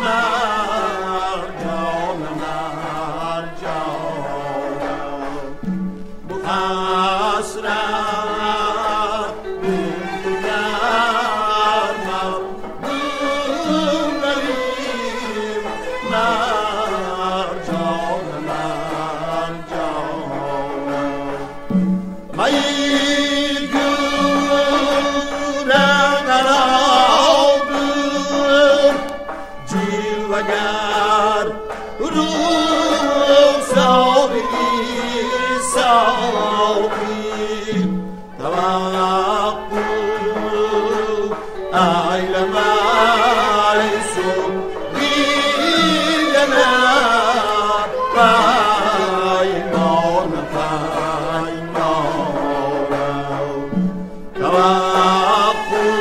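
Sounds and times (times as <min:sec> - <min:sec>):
ornamented singing: 0:00.0 - 0:56.0.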